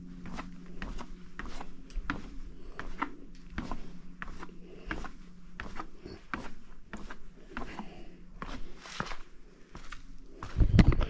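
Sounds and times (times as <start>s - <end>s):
footsteps on stairs: 0.0s - 11.0s.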